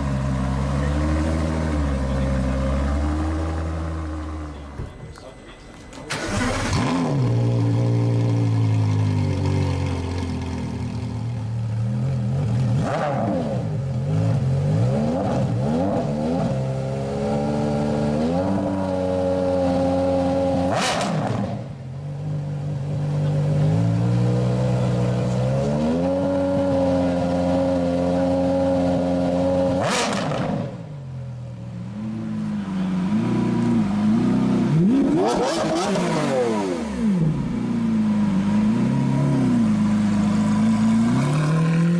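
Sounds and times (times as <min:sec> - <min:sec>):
sports car engine idling and revving: 0:00.0 - 0:41.9.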